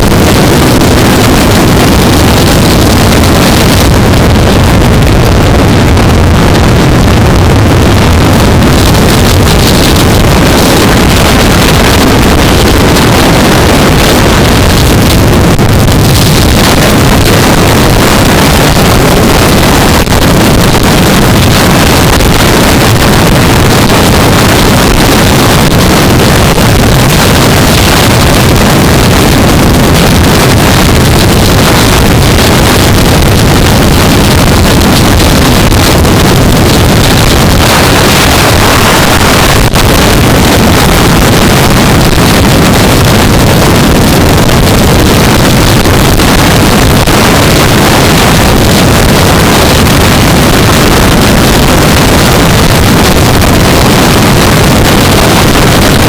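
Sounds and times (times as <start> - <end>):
motorcycle engine drone: 0.0 - 56.0
wind rushing over microphone: 0.0 - 56.0.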